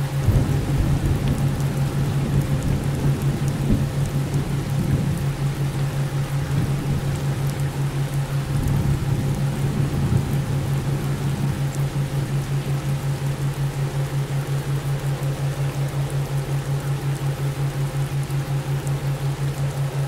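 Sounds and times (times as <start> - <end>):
rain-like noise: 0.0 - 20.0.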